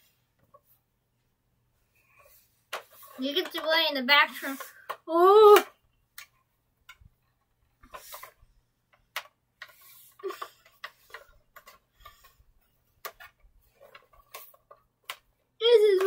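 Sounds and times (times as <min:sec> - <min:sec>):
toys clicking and knocking: 0:02.7 - 0:16.0.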